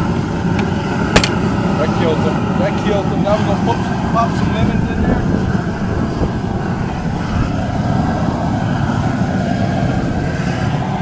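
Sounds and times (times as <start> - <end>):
propane burner roaring: 0.0 - 11.0.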